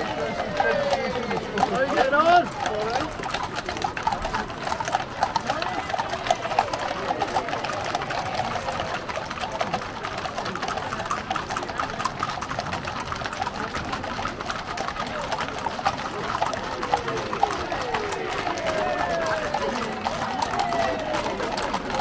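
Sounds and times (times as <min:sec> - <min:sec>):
crowd chatter: 0:00.0 - 0:22.0
horse hooves on pavement: 0:00.0 - 0:22.0.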